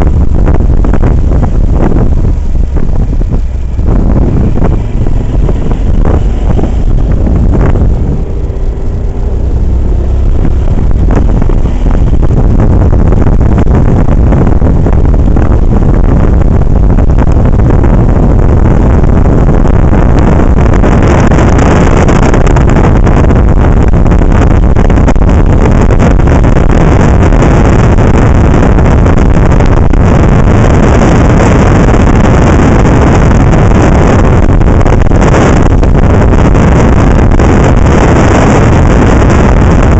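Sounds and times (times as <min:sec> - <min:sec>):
motorcycle engine: 0:00.0 - 0:39.9
wind blasting microphone: 0:00.0 - 0:39.9.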